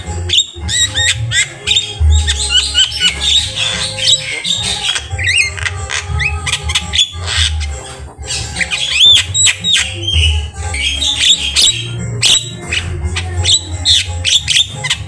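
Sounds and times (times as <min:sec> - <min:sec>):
bird singing varied whistles: 0:00.3 - 0:15.0.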